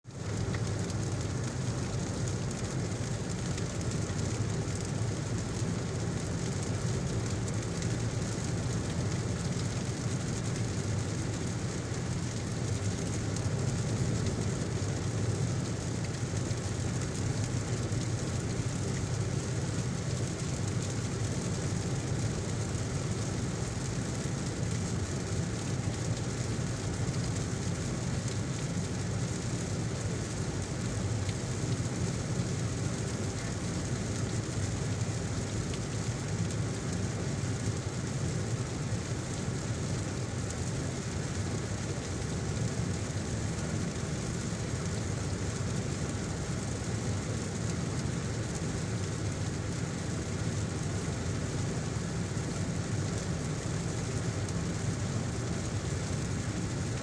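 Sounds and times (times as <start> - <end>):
heavy rain: 0.1 - 57.0
car driving on wet road: 0.2 - 56.8.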